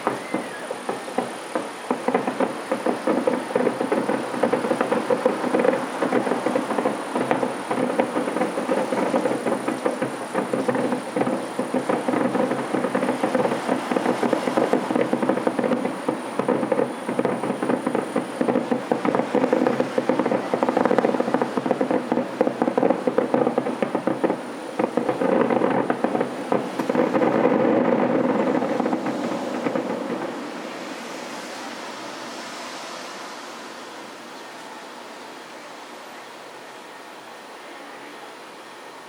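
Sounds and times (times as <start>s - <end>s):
distant fireworks barrage: 0.0s - 39.0s.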